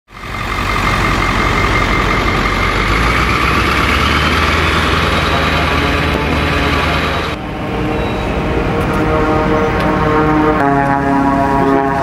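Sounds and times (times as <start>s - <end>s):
engine running with whine: 0.1s - 12.0s.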